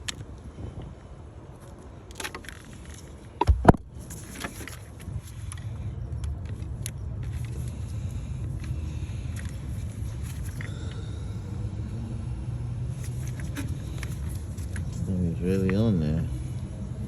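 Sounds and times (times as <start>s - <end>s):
steady low rumble: 3.0s - 17.0s.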